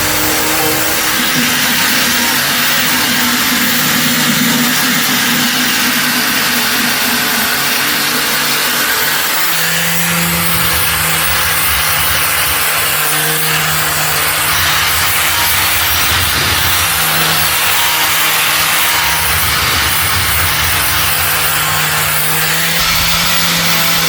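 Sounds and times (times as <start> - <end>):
power tool grinding metal: 0.0 - 24.0.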